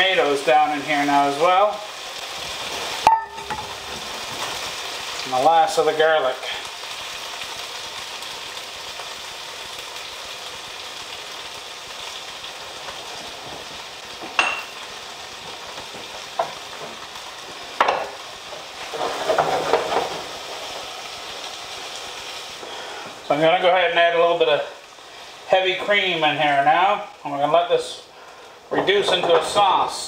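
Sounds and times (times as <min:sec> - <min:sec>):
food sizzling in skillet: 0:00.0 - 0:30.0.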